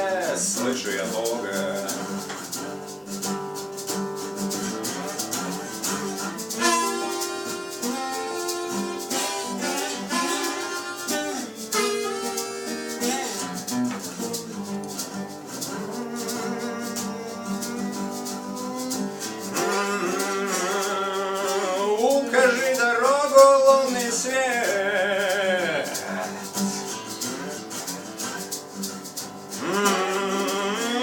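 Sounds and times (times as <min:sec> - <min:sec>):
guitar: 0:00.0 - 0:31.0
shaker keeping a beat: 0:00.0 - 0:31.0
sliding melody line: 0:00.0 - 0:31.0.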